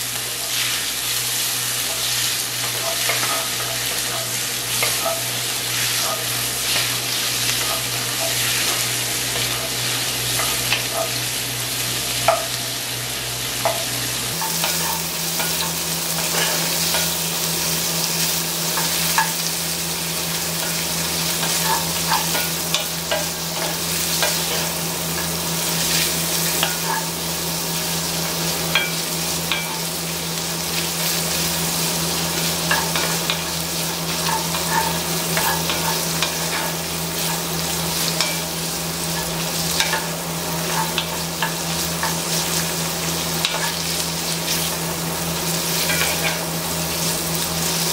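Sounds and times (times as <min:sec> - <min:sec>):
liver sizzling in a pot: 0:00.0 - 0:47.9.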